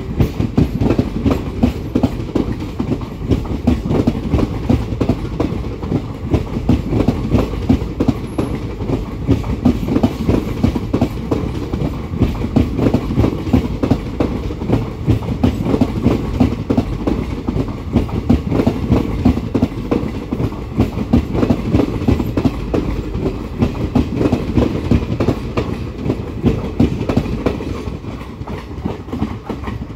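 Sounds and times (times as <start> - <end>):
train wheels clickety-clack: 0.0 - 29.9.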